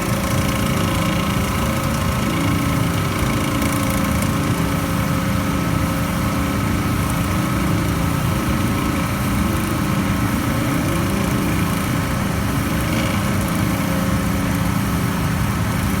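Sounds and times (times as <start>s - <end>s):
machine running with grinding hum: 0.0s - 16.0s.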